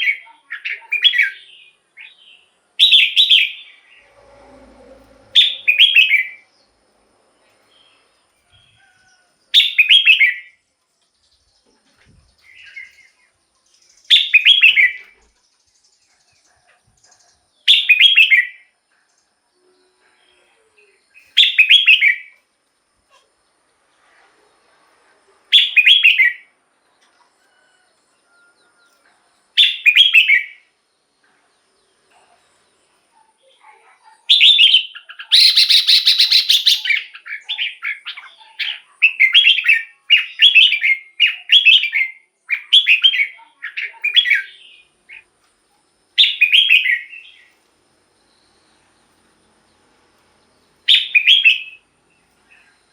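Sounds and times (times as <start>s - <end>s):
bird singing bright phrases: 0.0s - 22.5s, 25.4s - 27.8s, 28.8s - 52.9s.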